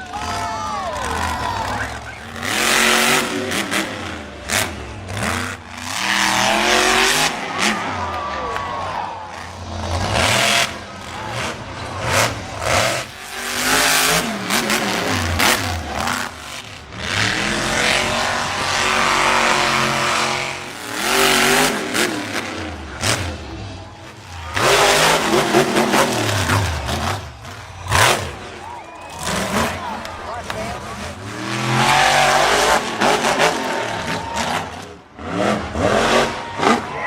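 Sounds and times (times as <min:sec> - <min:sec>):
truck engine revving hard: 0:00.0 - 0:37.0.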